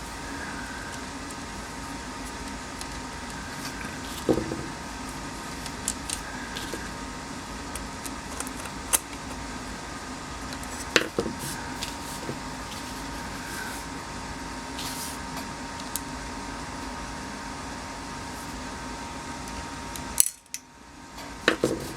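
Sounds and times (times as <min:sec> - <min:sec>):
steady background hum: 0:00.0 - 0:21.9.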